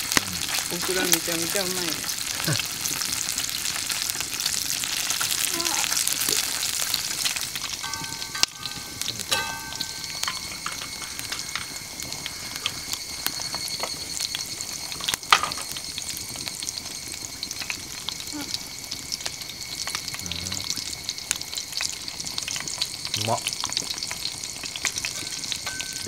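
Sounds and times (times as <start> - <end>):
cicadas ringing: 0.0 - 26.0
vegetables sizzling in a pan: 0.0 - 26.0.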